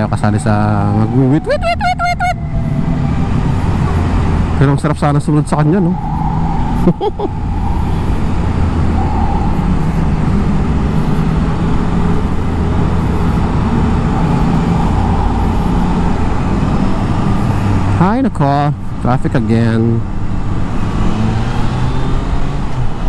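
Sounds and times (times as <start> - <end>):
road and wind noise: 0.0 - 23.0
surrounding traffic: 0.0 - 23.0.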